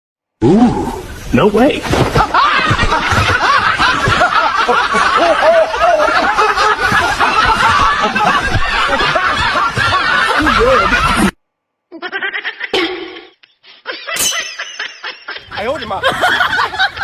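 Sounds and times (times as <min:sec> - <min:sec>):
people snickering and chuckling: 0:02.0 - 0:17.0.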